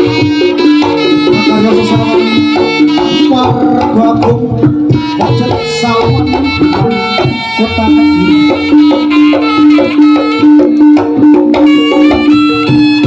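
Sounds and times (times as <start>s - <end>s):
hand drums beating: 0.0s - 13.0s
reedy nasal melody: 0.0s - 13.0s.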